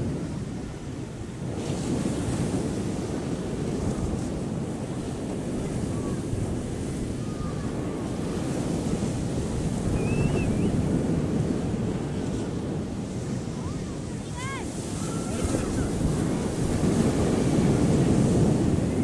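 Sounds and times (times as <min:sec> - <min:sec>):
ocean surf on beach: 0:00.0 - 0:19.0
wind rumbling on microphone: 0:00.0 - 0:19.0.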